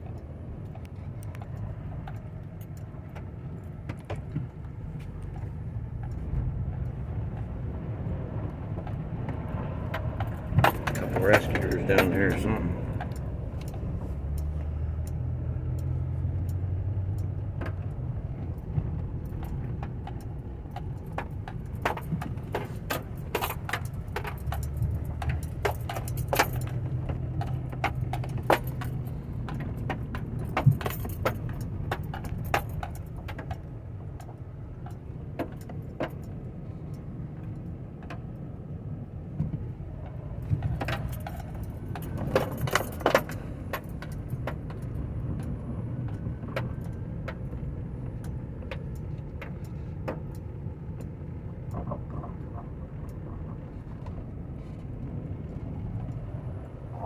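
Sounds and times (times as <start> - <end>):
metallic clicks and jingles: 0.0 - 7.5, 9.9 - 38.5, 39.9 - 57.0
car engine and road rumble: 0.0 - 57.0.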